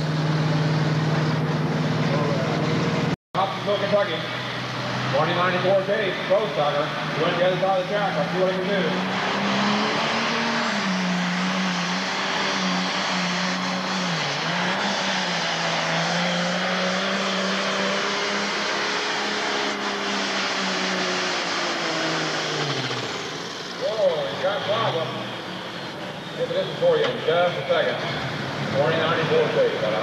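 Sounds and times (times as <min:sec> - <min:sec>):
tractor engine running at full power: 0:00.0 - 0:30.0.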